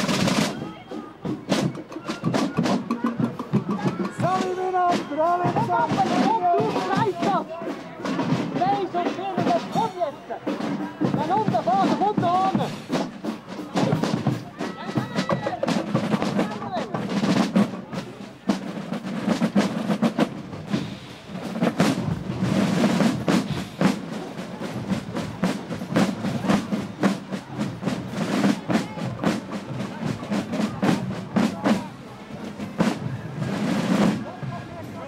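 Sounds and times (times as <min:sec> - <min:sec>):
marching drums: 0:00.0 - 0:35.0.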